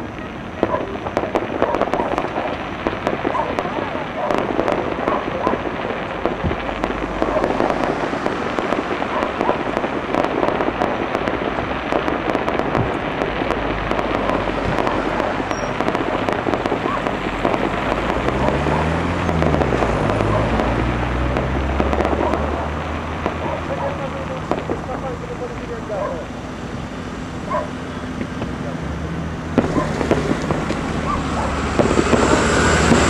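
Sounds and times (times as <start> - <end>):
sharp firework pops: 0.0 - 26.3, 27.4 - 28.8, 29.5 - 33.0
dense firework crackle: 0.0 - 33.0.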